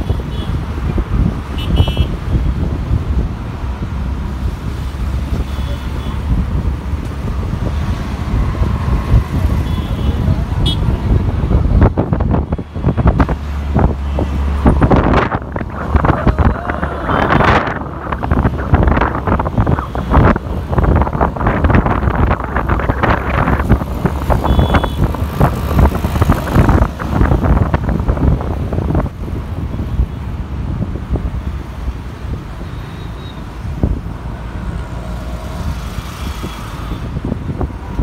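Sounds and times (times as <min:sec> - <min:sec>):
engine and road noise: 0:00.0 - 0:38.0
wind buffeting microphone: 0:06.2 - 0:32.6, 0:33.6 - 0:38.0.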